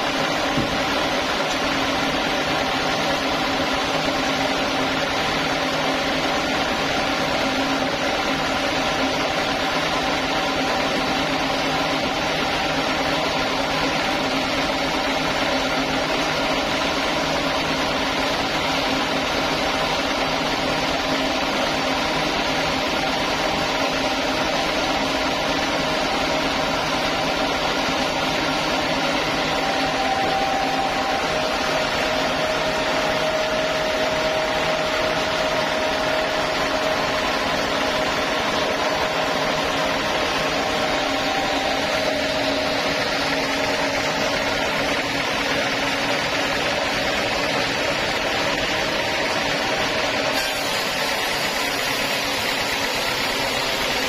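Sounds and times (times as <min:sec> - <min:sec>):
band sawmill machine hum: 0:00.0 - 0:54.0.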